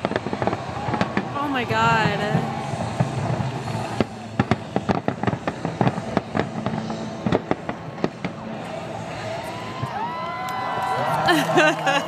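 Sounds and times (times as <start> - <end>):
low rumble: 0.0 - 11.1
fireworks bangs and crackling: 0.0 - 12.0.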